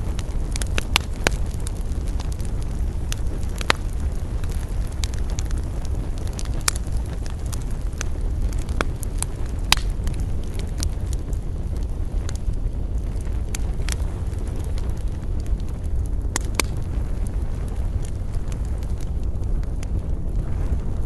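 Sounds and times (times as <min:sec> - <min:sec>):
campfire crackling: 0:00.0 - 0:21.0
wind rumble: 0:00.0 - 0:21.0.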